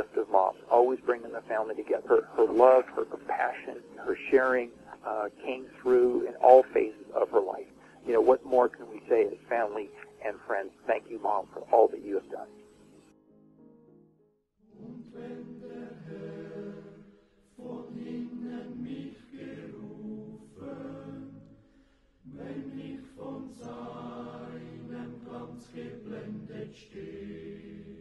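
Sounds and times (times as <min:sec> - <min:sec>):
choir singing a hymn: 0:00.0 - 0:12.4, 0:14.7 - 0:28.0.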